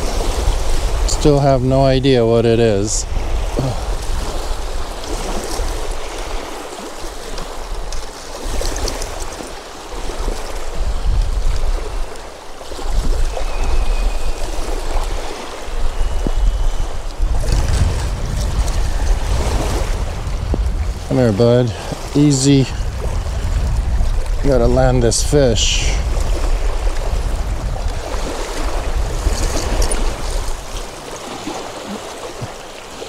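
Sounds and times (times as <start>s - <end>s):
waves washing onto rocky shore: 0.0s - 33.0s
wind buffeting microphone: 0.0s - 33.0s.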